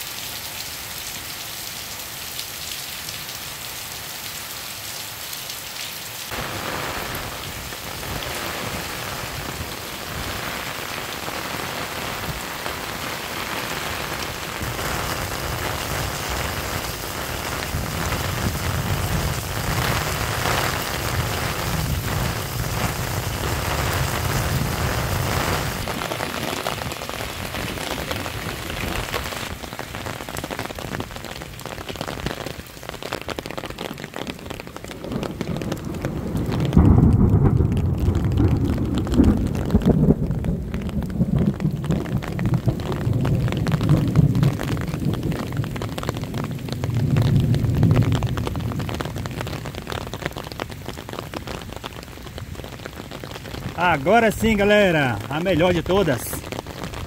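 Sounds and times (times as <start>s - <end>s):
rain splashing on hard surfaces: 0.0s - 57.0s.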